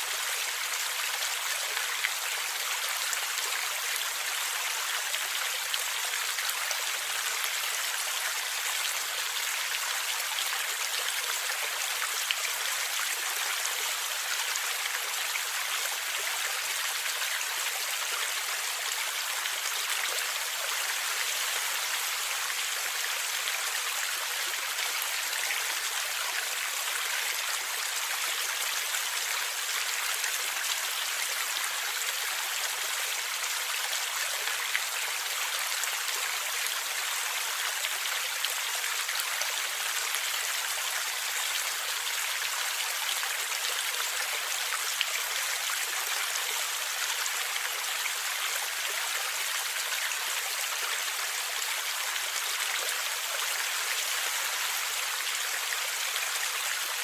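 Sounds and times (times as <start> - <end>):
stream flowing and gurgling: 0.0 - 57.0.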